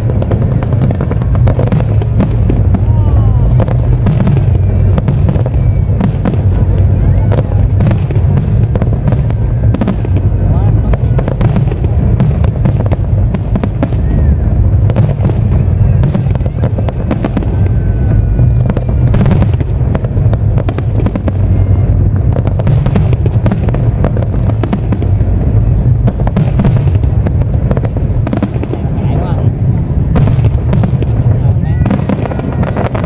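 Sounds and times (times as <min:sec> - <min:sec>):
fireworks bangs and crackles: 0:00.0 - 0:33.0
low rumble: 0:00.0 - 0:33.0.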